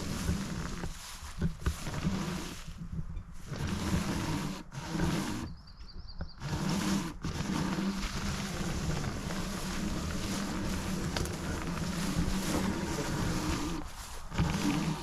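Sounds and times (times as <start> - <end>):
hub motors rumbling: 0.0 - 15.0.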